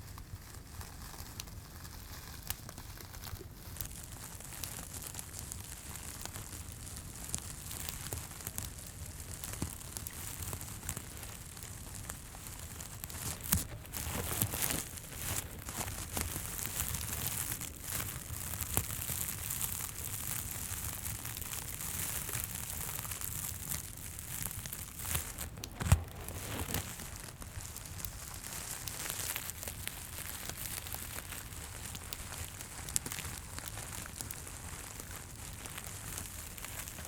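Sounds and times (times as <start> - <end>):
teddy bear crinkling and rustling: 0.0 - 37.0.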